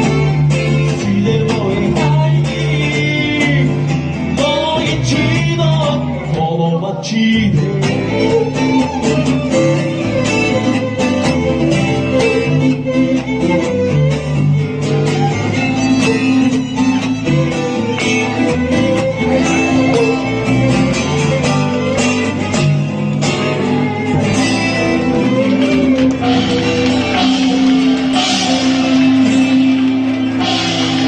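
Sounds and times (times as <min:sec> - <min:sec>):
live band with guitar: 0:00.0 - 0:31.0.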